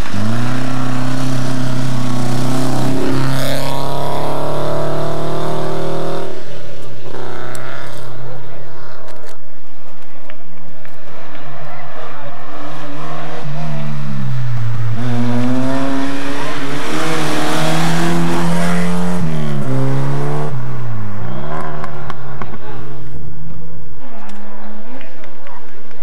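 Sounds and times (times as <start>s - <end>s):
rally car engine revving: 0.0s - 10.0s, 10.6s - 26.0s.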